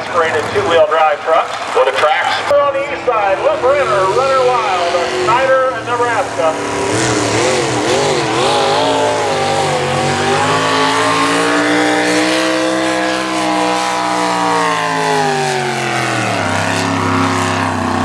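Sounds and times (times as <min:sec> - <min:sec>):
truck engine at full throttle: 0:00.0 - 0:18.0.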